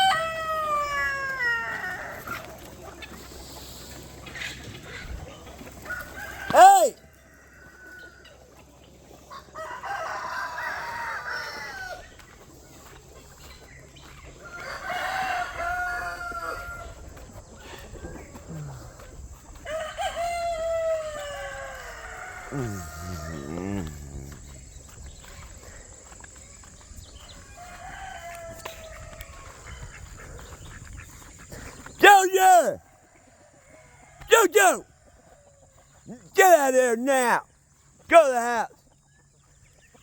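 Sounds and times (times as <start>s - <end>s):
roosters crowing: 0.0s - 40.0s.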